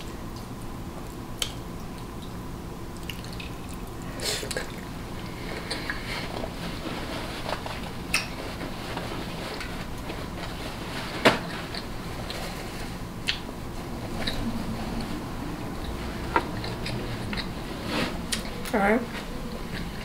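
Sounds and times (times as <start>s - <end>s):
low room noise: 0.0s - 20.0s.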